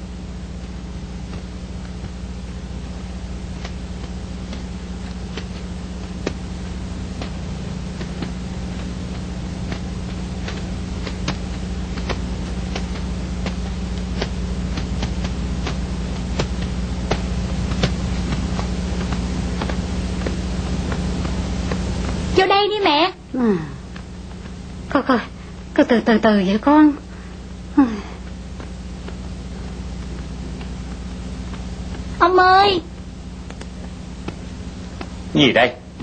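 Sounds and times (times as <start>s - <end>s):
low hum and hiss: 0.0s - 36.0s
clicks and crackles: 0.1s - 22.4s, 23.9s - 25.0s, 28.2s - 32.2s, 32.9s - 35.3s.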